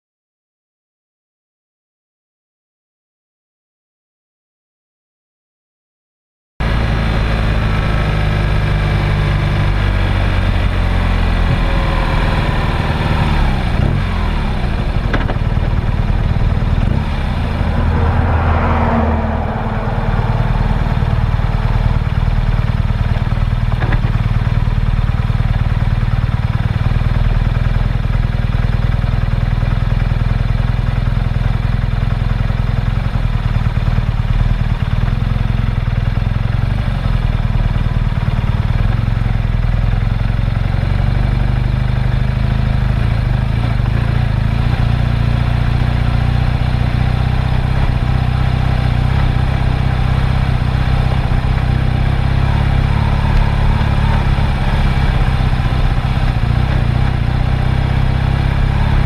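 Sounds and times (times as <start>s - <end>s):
vehicle engine running: 6.6s - 59.0s.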